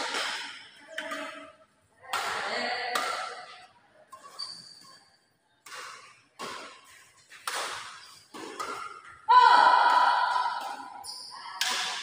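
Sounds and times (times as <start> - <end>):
rackets hitting shuttlecock: 0.0 - 5.0, 5.6 - 12.0.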